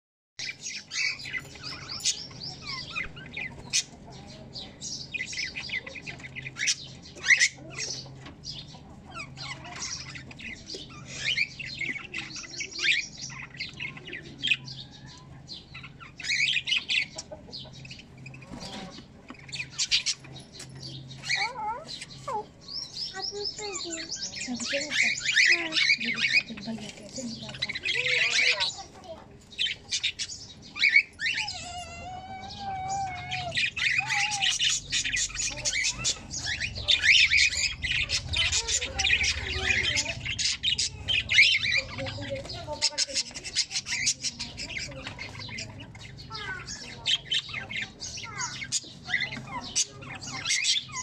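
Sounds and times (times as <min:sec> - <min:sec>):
birds chirping: 0:00.4 - 0:51.0.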